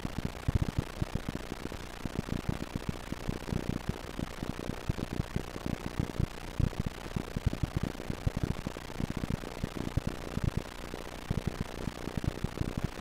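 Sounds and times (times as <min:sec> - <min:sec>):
low pops and crackle: 0:00.0 - 0:13.0.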